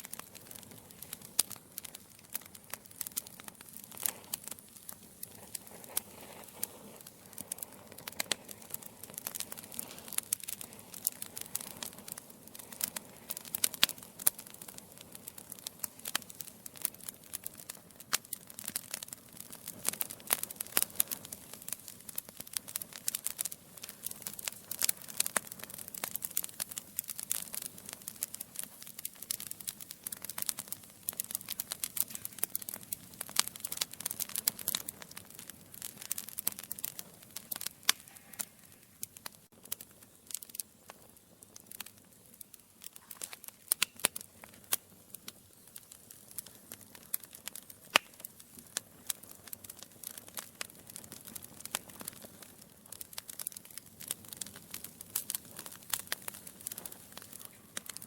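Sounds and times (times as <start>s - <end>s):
hiss of flames: 0.0s - 58.0s
logs crackling and popping: 0.0s - 58.0s.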